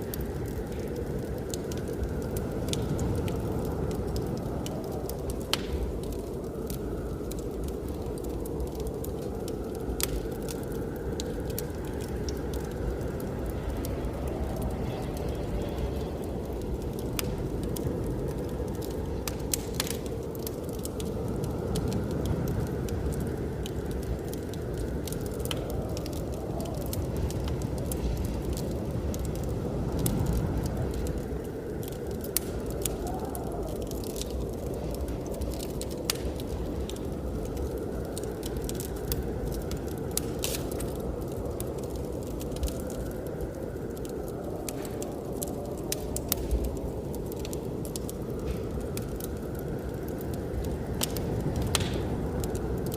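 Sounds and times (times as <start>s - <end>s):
blizzard wind rushing: 0.0s - 52.9s
wood fire crackling and popping: 0.0s - 52.9s.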